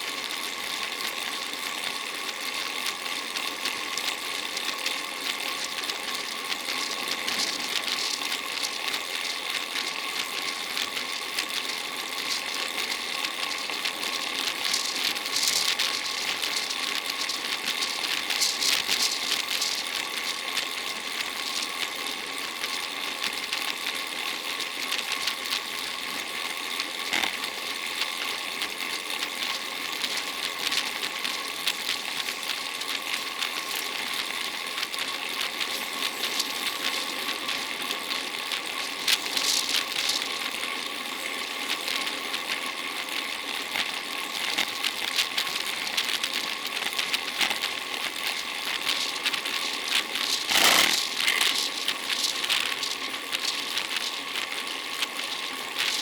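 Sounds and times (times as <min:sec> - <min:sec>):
faint steady whine: 0:00.0 - 0:56.0
bicycle drivetrain rattle: 0:00.1 - 0:56.0
bicycle tyre hiss on road: 0:00.1 - 0:56.0.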